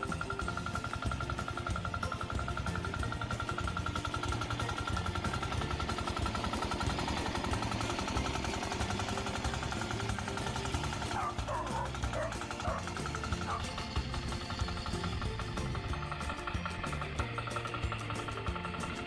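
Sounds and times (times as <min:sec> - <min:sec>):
diesel engine knocking under load: 0:00.0 - 0:19.0.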